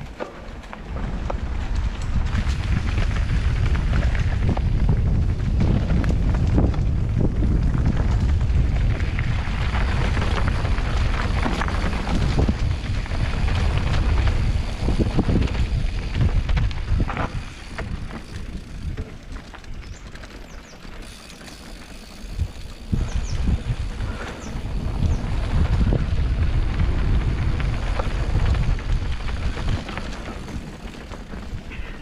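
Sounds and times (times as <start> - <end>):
bike rattling over rough ground: 0.0 - 32.0
wind buffeting microphone: 0.8 - 32.0.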